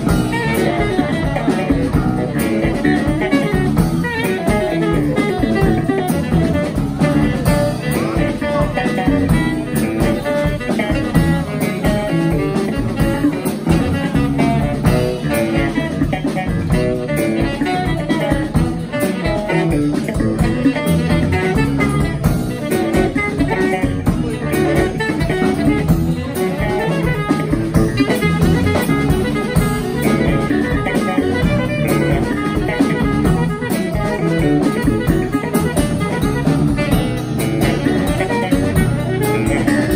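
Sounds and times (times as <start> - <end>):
drums playing: 0.0 - 39.9
plucked electric bass: 0.0 - 39.9
saxophone: 0.0 - 39.9.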